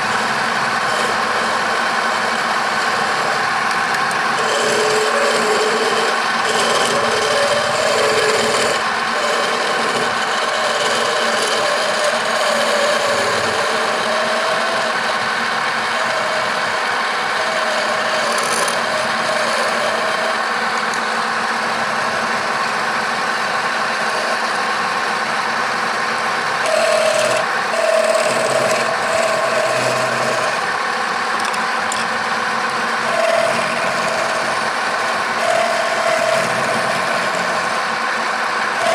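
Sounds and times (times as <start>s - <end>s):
tool scraping spinning wood: 0.0s - 38.9s
wood lathe motor hum: 0.0s - 38.9s.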